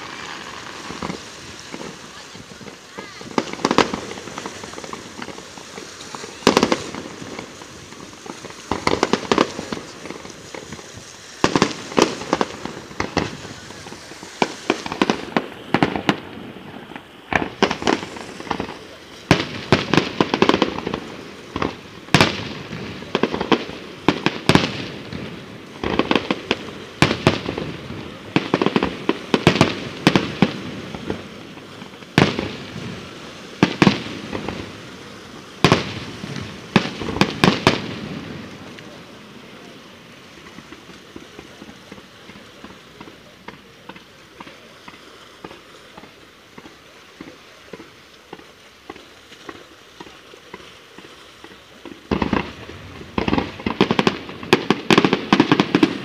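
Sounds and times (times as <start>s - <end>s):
fireworks shells bursting: 0.0s - 39.0s, 39.6s - 56.0s.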